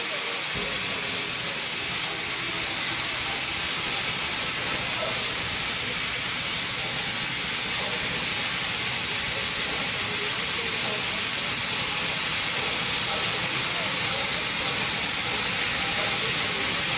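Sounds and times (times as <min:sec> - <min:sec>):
steam hissing: 0:00.0 - 0:16.9.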